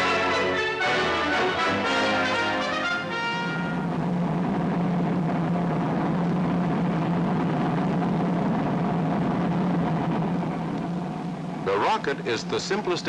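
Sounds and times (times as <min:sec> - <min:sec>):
jet engine rushing drone: 0:00.0 - 0:13.0.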